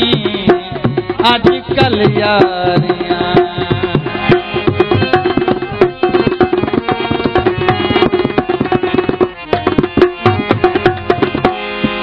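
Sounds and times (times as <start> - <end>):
hand drum playing fast: 0.0 - 12.0
harmonium: 0.0 - 12.0.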